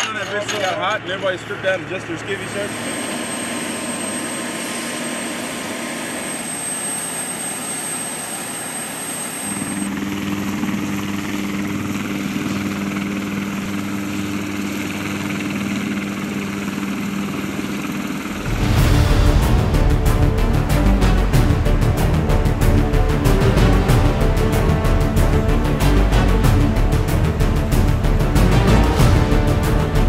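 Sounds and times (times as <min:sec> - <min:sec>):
helicopter engines and rotor running: 0:00.0 - 0:30.0.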